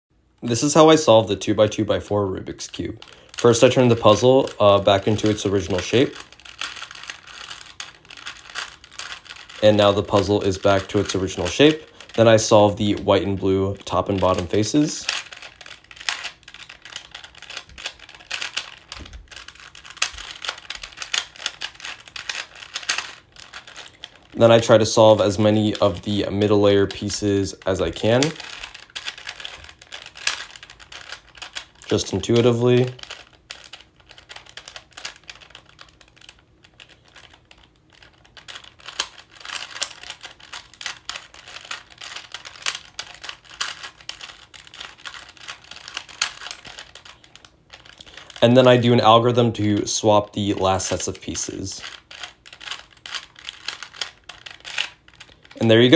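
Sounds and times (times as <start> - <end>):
plastic puzzle cube clicking: 3.0 - 24.7, 25.7 - 48.7, 50.6 - 55.9.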